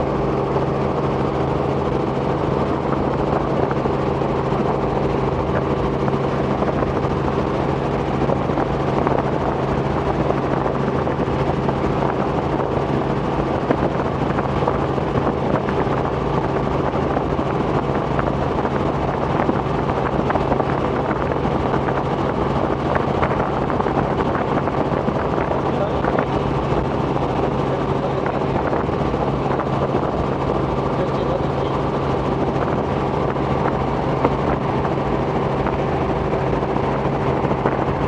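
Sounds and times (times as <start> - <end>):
helicopter drone from inside cabin: 0.0 - 38.0.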